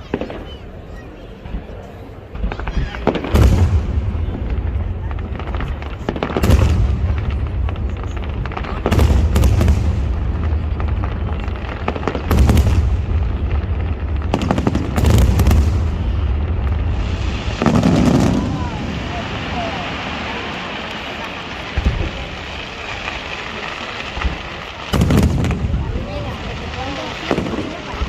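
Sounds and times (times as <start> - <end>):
firework crackle: 0.0 - 28.0
firework shells booming: 2.3 - 28.0.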